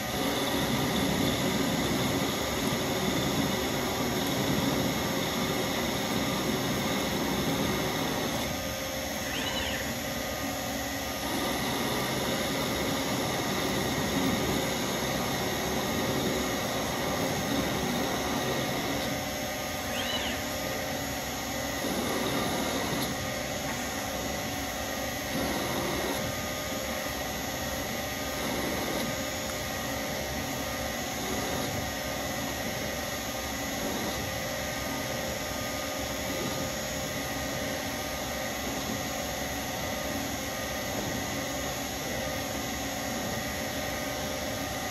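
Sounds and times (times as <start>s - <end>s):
lathe machine hum and whine: 0.0s - 44.9s.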